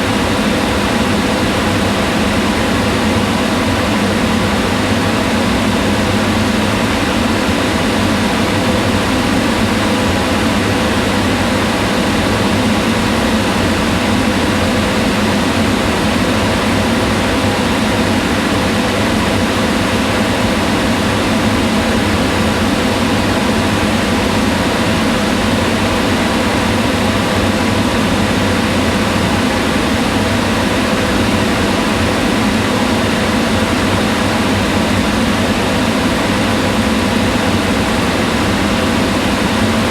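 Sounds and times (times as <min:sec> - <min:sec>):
range hood fan running: 0:00.0 - 0:39.9.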